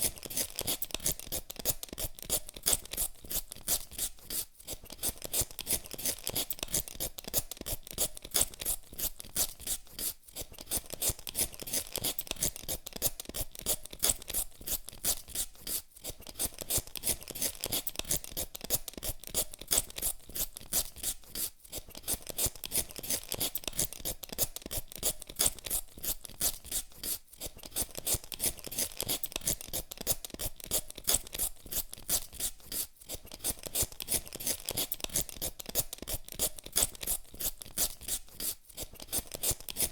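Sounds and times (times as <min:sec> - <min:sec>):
peeler scraping potato skin: 0:00.0 - 0:39.9.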